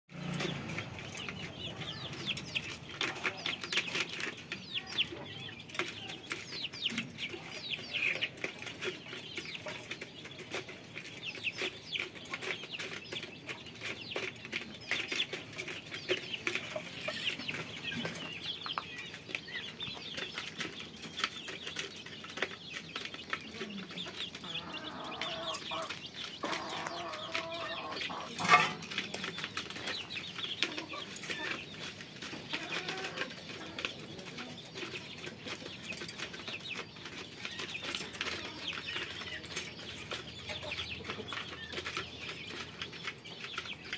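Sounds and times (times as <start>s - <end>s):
chicks peeping: 0.1s - 43.9s.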